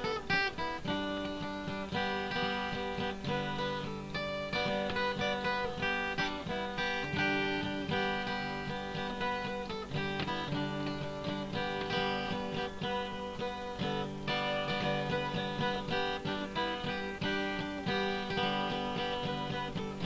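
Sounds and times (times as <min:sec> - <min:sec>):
plucked string instrumental: 0:00.0 - 0:20.0.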